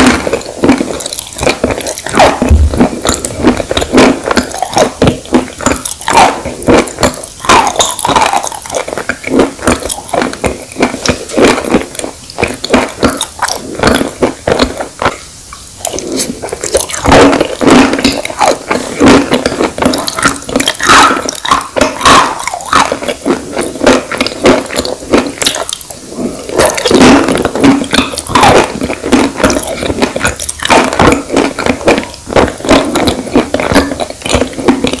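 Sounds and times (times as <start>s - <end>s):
chalk chewing crunches: 0.0s - 35.0s.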